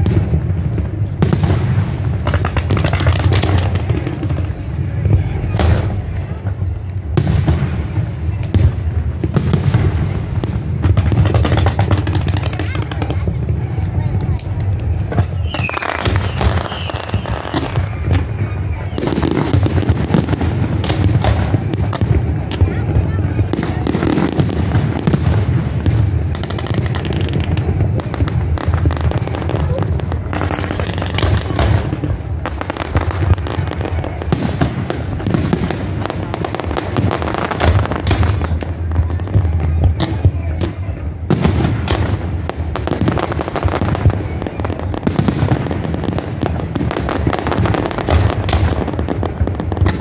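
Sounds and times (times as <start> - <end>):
firework crackling: 0.0 - 50.0.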